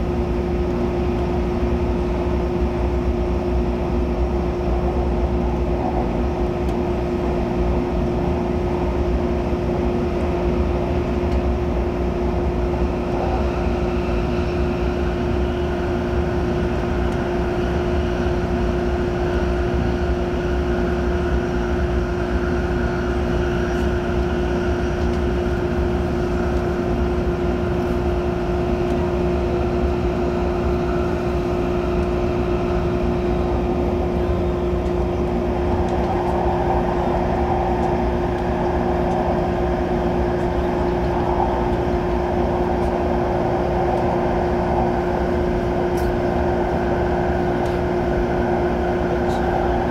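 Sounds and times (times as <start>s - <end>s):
train carriage hum and rumble: 0.0s - 49.9s.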